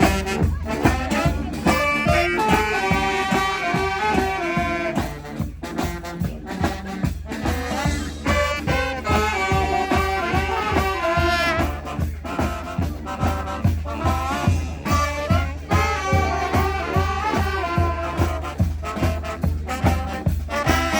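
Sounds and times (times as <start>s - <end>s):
brass band horns playing: 0.0s - 20.9s
steady drum beat: 0.0s - 20.9s.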